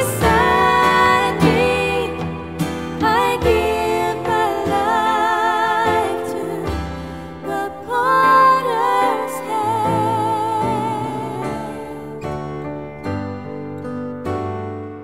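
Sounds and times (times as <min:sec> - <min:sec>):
person singing with vibrato: 0:00.0 - 0:12.6
instrumental accompaniment: 0:00.0 - 0:15.0.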